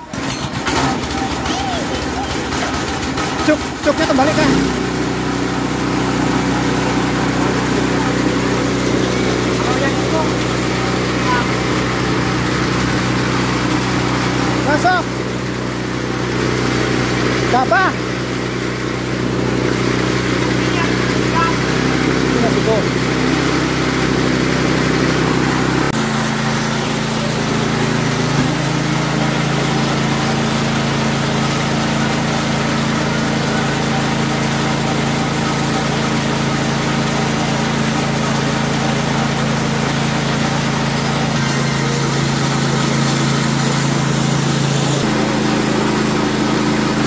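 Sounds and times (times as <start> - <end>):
rice milling machine humming: 0.0 - 47.0.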